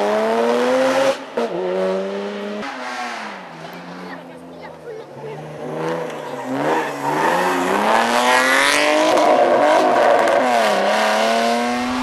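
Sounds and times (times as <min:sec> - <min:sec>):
rally car engine revving hard: 0:00.0 - 0:04.1, 0:05.2 - 0:12.0.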